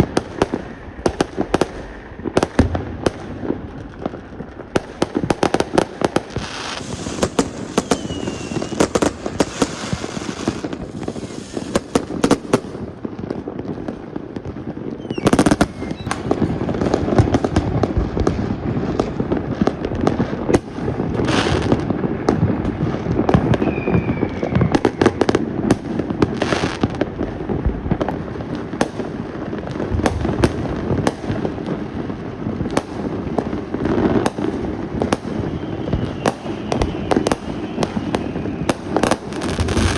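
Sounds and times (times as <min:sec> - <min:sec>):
fireworks crackling and banging: 0:00.0 - 0:39.9
fireworks falling whistles: 0:00.0 - 0:39.9.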